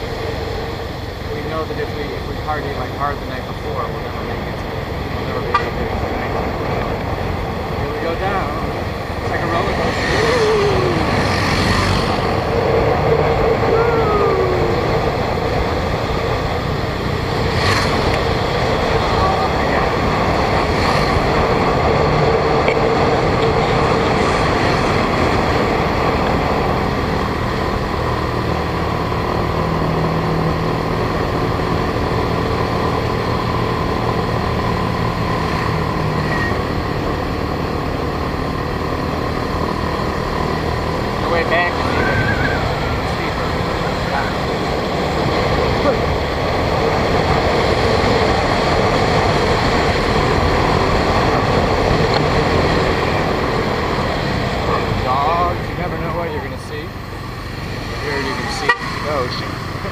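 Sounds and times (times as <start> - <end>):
motorbike engine: 0.0 - 59.9
wind and road noise: 0.0 - 59.9.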